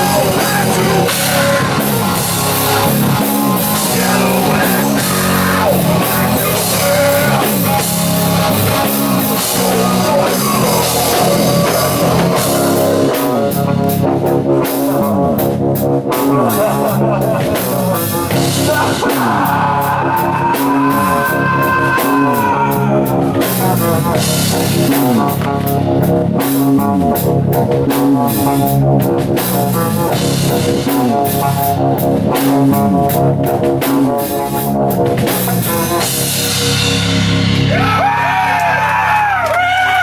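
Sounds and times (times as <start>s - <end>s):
drum kit steady beat: 0.0s - 38.9s
electric guitar: 0.0s - 40.0s.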